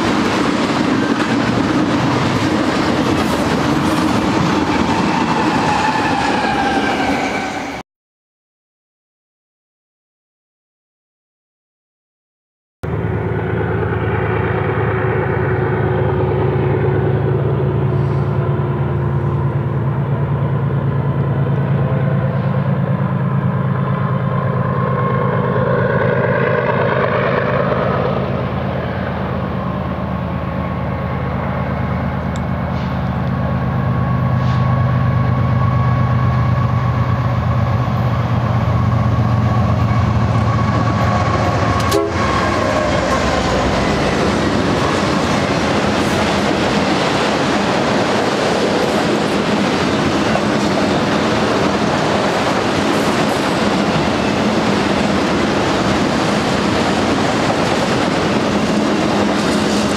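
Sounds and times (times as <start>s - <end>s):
diesel locomotive engine drone: 0.0s - 7.8s, 12.8s - 59.9s.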